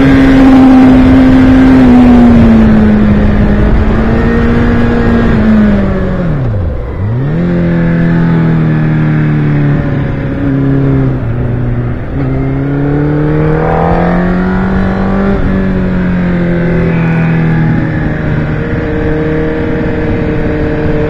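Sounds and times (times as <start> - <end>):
vehicle engine accelerating: 0.0 - 21.0
wind and road noise: 0.0 - 21.0.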